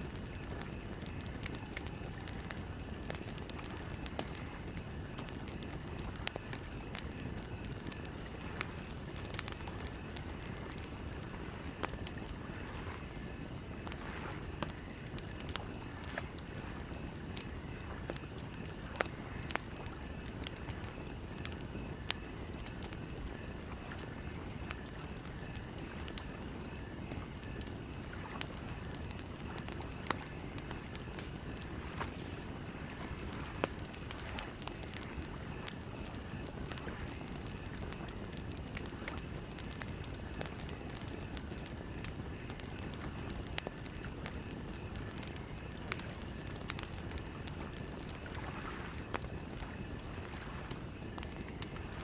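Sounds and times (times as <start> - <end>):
burning wood crackling and popping: 0.0 - 52.0
campfire flames roaring: 0.0 - 52.0.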